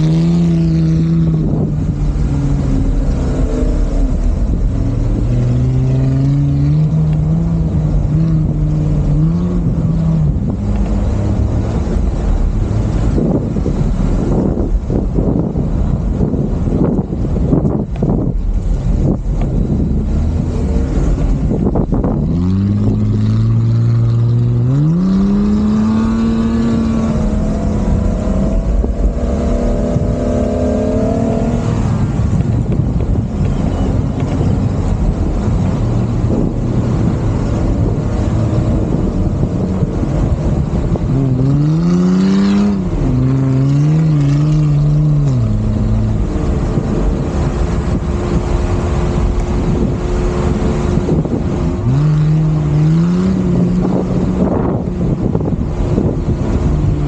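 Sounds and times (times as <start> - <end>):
engine working hard: 0.0 - 57.0
wind noise: 0.0 - 57.0.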